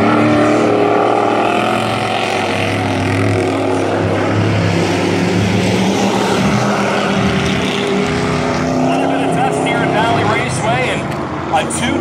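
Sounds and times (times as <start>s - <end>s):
racing truck engines droning: 0.0s - 12.0s.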